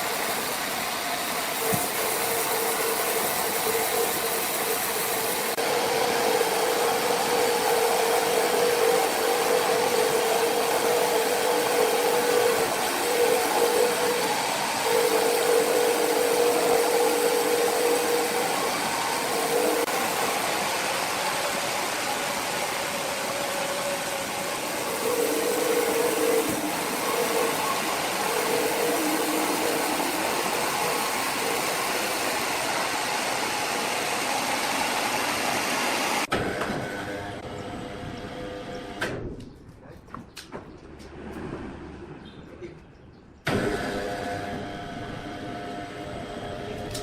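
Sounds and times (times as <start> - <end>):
sawmill saw whining: 0.0 - 39.0, 43.5 - 47.0.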